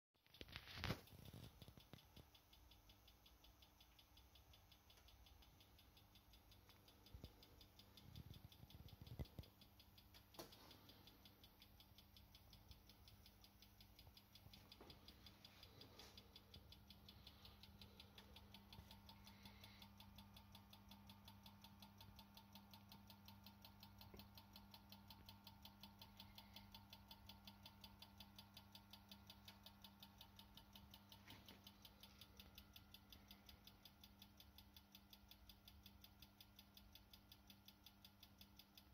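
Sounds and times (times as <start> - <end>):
faint even ticking: 0.2 - 38.9.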